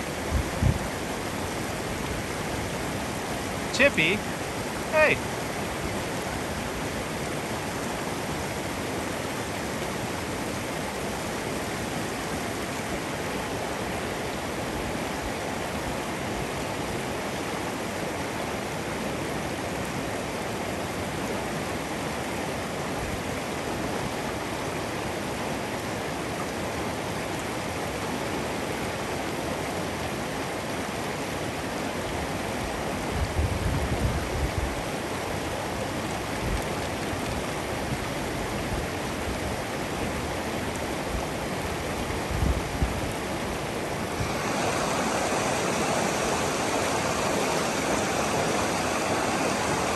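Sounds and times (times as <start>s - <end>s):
mountain stream rushing: 0.0s - 49.9s.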